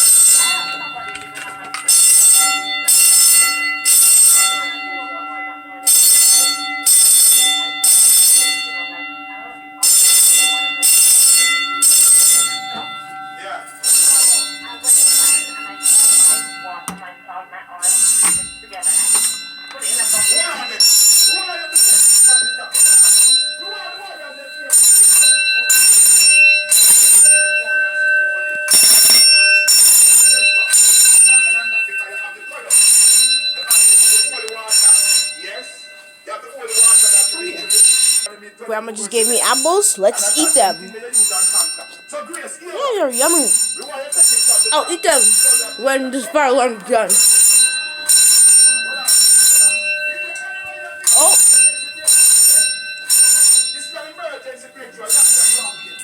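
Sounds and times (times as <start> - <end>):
fire alarm bell ringing: 0.0 - 56.0.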